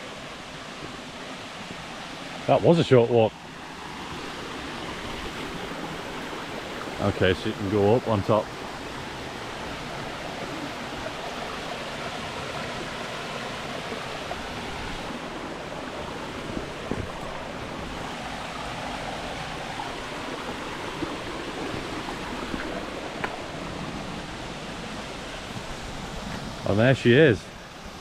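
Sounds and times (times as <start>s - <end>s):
stream and waterfall rushing: 0.0s - 28.0s.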